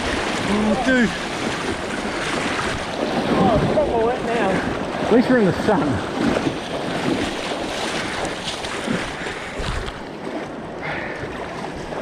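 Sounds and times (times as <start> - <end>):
wind buffeting microphone: 0.0 - 10.1
rushing river water: 0.0 - 12.0.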